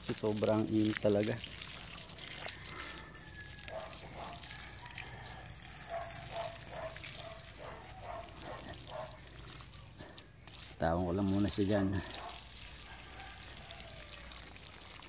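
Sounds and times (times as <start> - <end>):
water gushing from a hose: 0.0 - 15.0.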